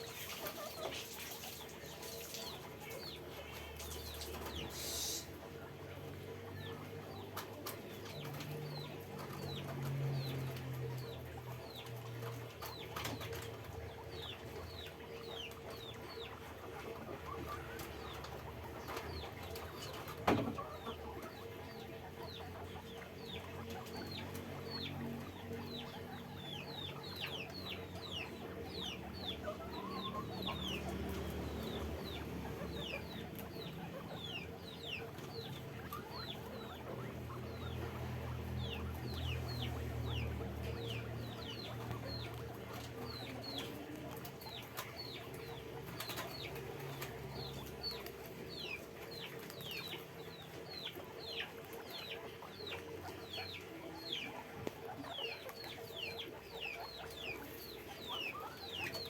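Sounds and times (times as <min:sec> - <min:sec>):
guinea pigs squeaking: 0:00.0 - 0:59.0.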